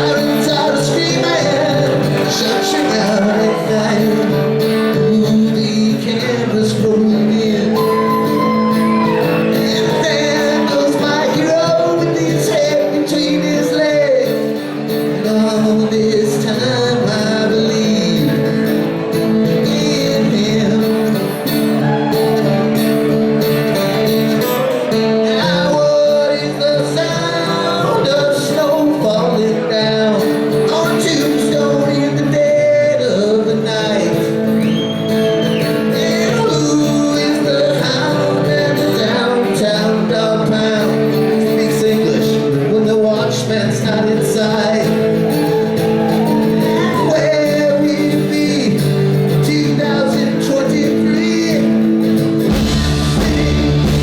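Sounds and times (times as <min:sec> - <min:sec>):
person singing lead vocal: 0:00.0 - 0:23.0, 0:23.8 - 0:54.0
rock band playing live: 0:00.0 - 0:54.0.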